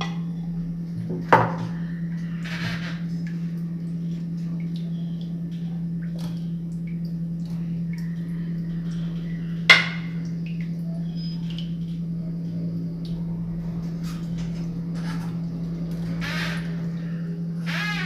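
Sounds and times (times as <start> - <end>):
low hum: 0.0 - 18.0
soft squishes of filling: 1.7 - 17.6.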